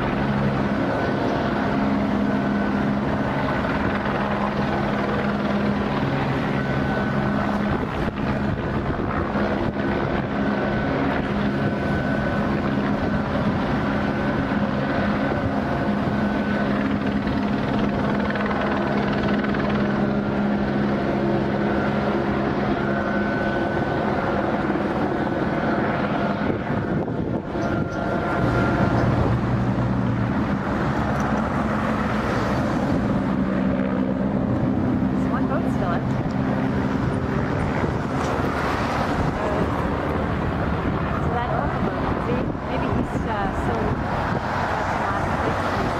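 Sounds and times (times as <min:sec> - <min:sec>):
engine drone: 0:00.0 - 0:45.9.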